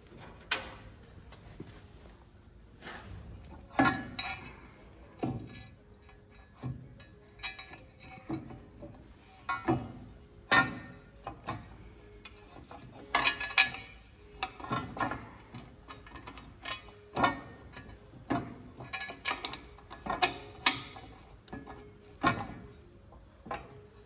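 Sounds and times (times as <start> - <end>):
metal plate and bolts clinking: 3.1 - 22.8.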